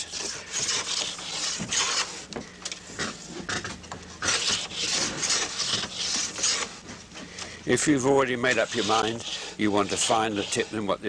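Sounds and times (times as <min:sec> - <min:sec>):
hand plane scraping bamboo: 0:00.0 - 0:02.3, 0:03.0 - 0:11.0.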